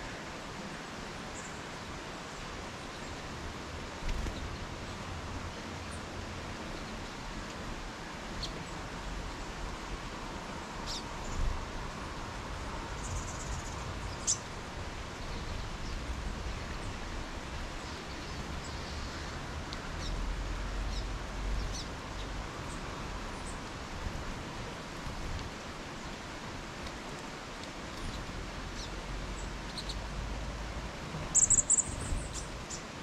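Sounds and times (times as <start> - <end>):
outdoor hiss and rumble: 0.0 - 33.0
songbirds chirping: 0.9 - 33.0.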